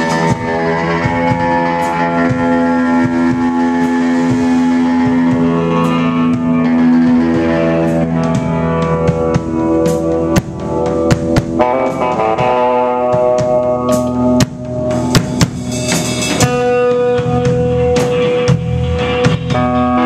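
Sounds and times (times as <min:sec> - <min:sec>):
band holding chords: 0:00.0 - 0:20.0
drum and cymbal hits: 0:00.0 - 0:20.0.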